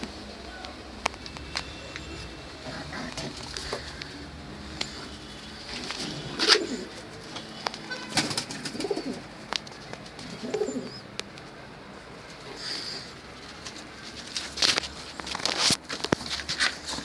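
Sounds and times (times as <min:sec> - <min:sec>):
pigeons cooing: 0:00.0 - 0:15.6.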